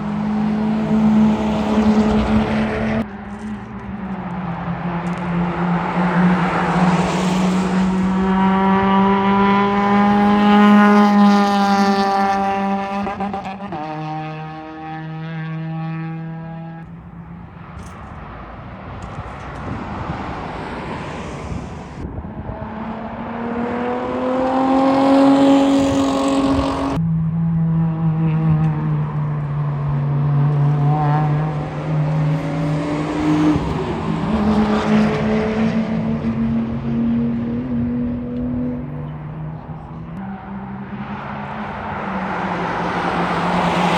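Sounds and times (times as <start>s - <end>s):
sports car engines accelerating: 0.0s - 43.9s.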